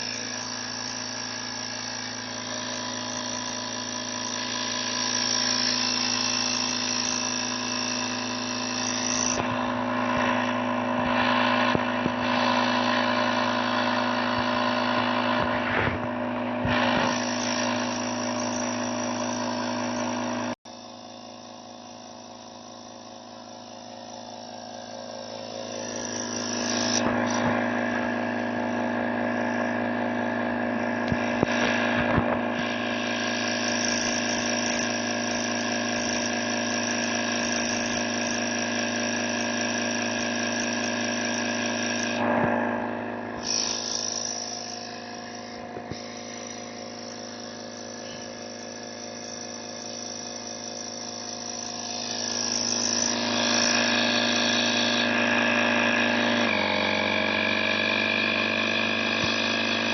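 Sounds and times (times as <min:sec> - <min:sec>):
vacuum cleaner motor hum: 0:00.0 - 0:59.9.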